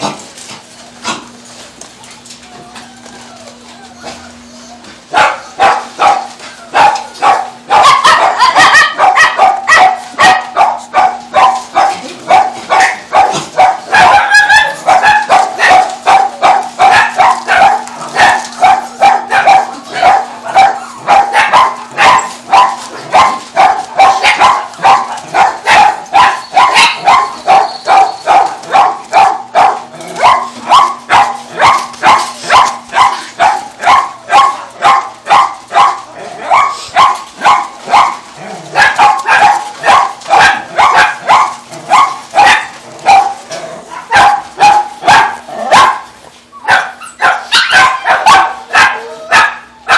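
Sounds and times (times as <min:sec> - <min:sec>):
dogs barking: 0:05.0 - 0:49.9.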